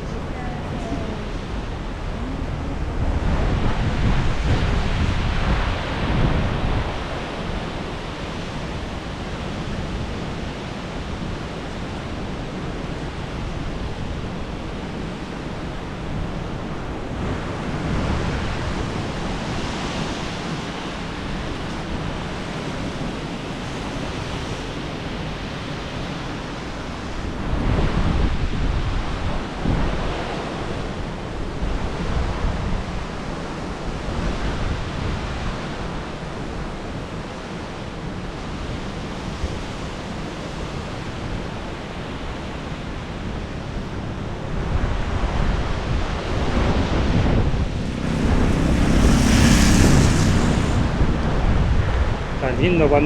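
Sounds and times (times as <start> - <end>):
wind gusting against microphone: 0.0 - 37.1, 43.3 - 53.0.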